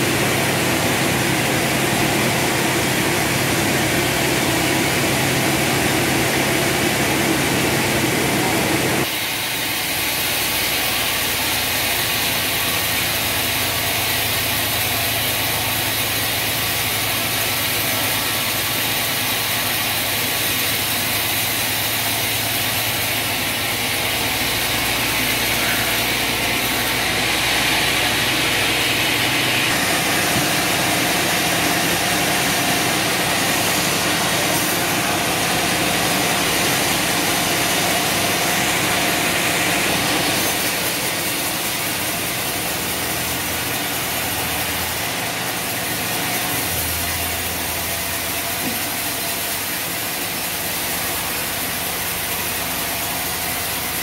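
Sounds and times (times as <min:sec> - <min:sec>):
band saw motor hum and hiss: 0:00.0 - 0:54.0.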